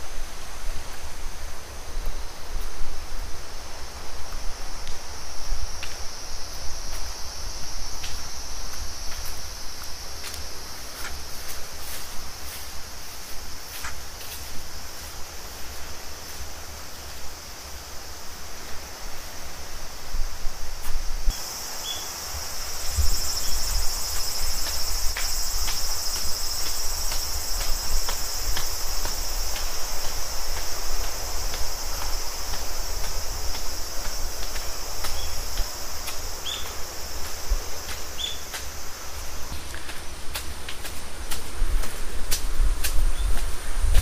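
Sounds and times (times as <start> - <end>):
insects buzzing: 0.0 - 44.0.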